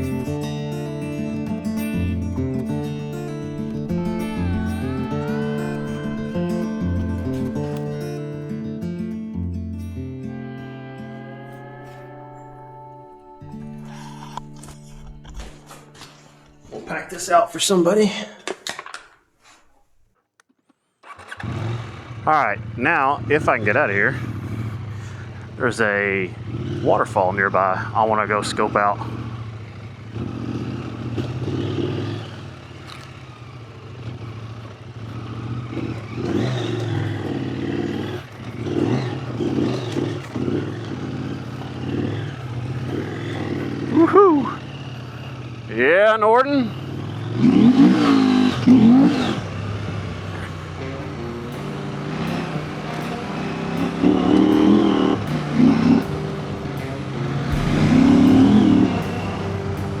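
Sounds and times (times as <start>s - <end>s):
motorcycle engine revving: 0.0s - 12.5s, 21.0s - 60.0s.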